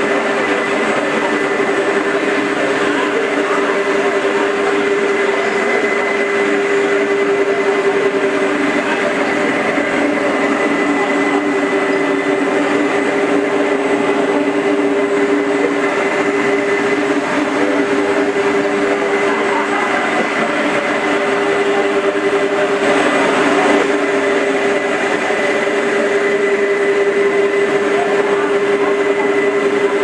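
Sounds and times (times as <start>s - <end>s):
concrete floor grinder running: 0.0s - 30.0s.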